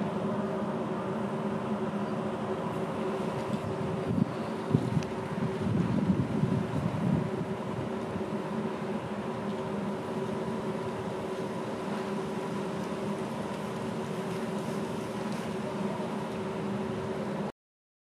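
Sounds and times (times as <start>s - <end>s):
mechanical hum with held tones: 0.0s - 17.5s.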